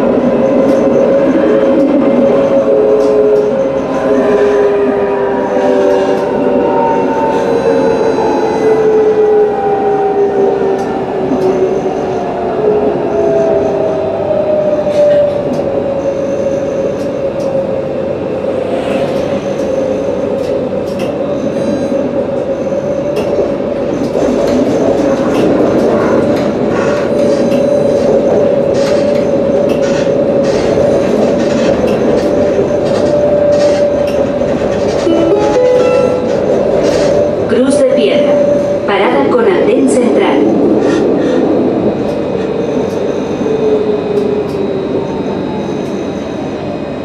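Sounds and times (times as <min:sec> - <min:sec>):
tram electric whine: 0:00.0 - 0:47.0
wheels rumbling on rail: 0:00.0 - 0:47.0.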